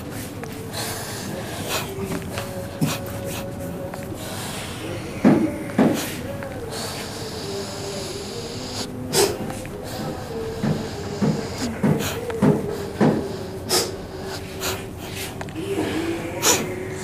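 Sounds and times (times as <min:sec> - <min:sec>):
low steady hum: 0:00.0 - 0:17.0
person forceful breaths: 0:00.0 - 0:17.0.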